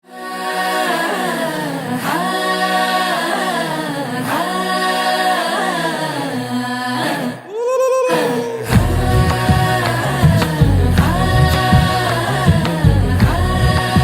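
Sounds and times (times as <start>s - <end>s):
voices singing unaccompanied: 0.0s - 14.0s.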